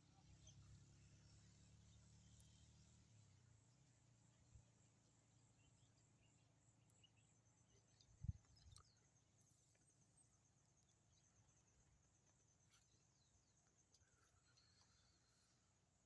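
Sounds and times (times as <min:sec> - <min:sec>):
faint chirps: 0:00.0 - 0:16.0.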